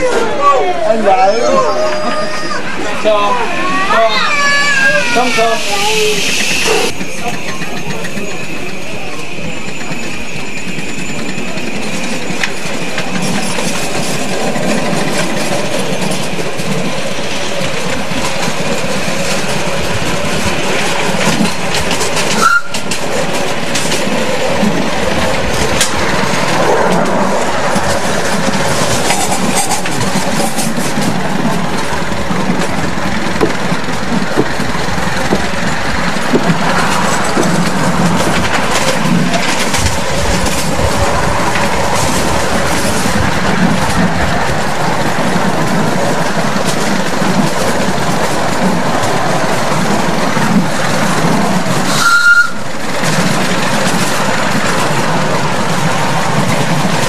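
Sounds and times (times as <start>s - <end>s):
miniature train rolling rumble: 0.0s - 57.0s
wheels clicking over rail joints: 6.6s - 57.0s.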